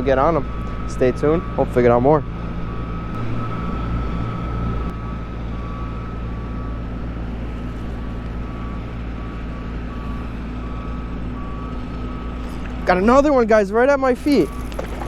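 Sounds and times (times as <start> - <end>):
faint reversing alarm beeping: 0.0 - 15.0.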